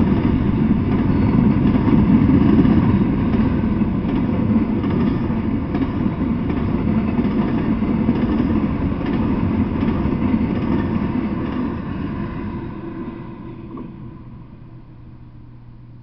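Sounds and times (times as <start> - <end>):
steel wheels rumbling on rail: 0.0 - 15.7.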